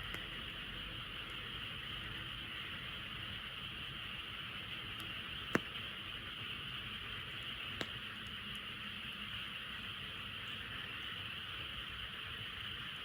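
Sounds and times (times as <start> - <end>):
campfire pop: 0.0 - 12.2.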